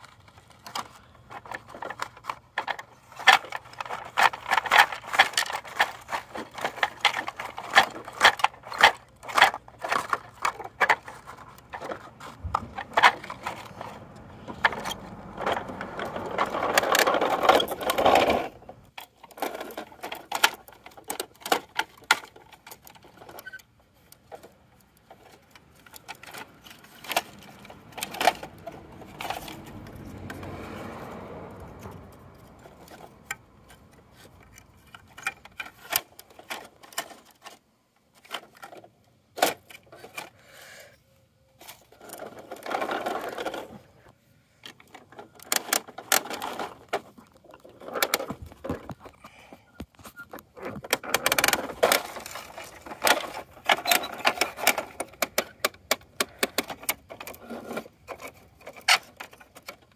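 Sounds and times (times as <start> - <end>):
plastic toy clicking and rattling: 0.0 - 30.6, 31.5 - 40.4, 41.6 - 43.8, 44.6 - 49.2, 50.1 - 59.9.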